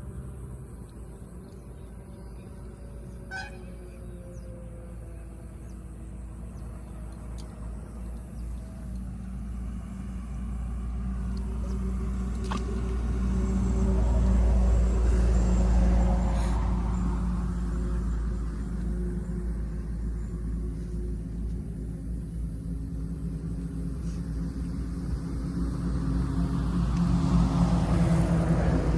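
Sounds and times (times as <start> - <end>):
passing vehicle engine rumbling: 0.0 - 28.9.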